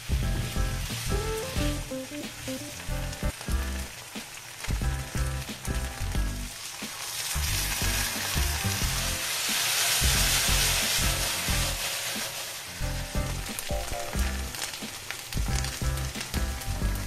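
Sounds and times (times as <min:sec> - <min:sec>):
food sizzling in a frying pan: 0:00.0 - 0:17.0
lo-fi music with steady beat: 0:00.0 - 0:17.0.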